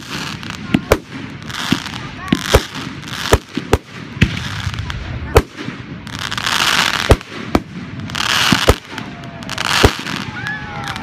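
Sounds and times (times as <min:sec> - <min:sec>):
dense firework hiss: 0:00.0 - 0:11.0.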